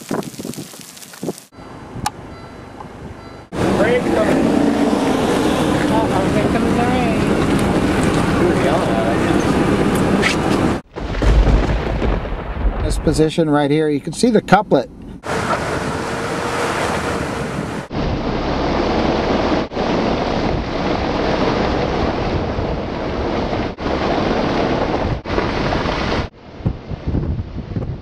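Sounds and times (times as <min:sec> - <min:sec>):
wind buffeting microphone: 0:00.0 - 0:13.2, 0:15.2 - 0:28.0.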